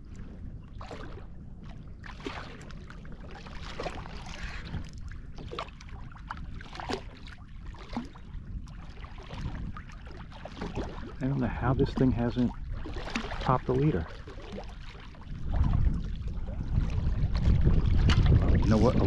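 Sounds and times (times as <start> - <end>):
water splashing against kayak hull: 0.0 - 19.0.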